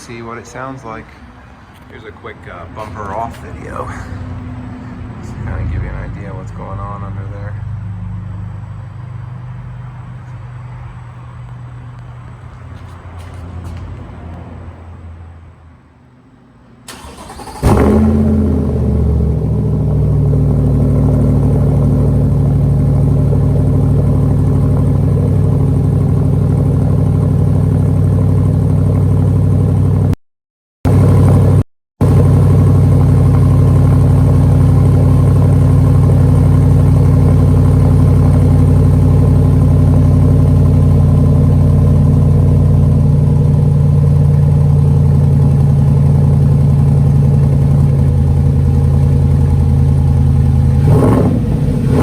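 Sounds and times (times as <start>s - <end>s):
car engine idling: 0.0s - 15.8s, 16.8s - 30.2s, 30.9s - 52.0s.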